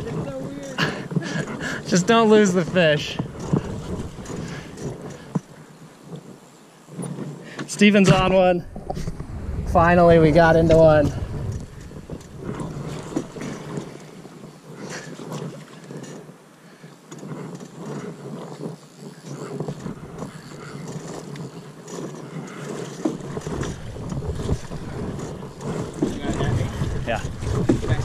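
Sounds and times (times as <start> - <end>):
water swishing around oars: 0.0 - 28.0.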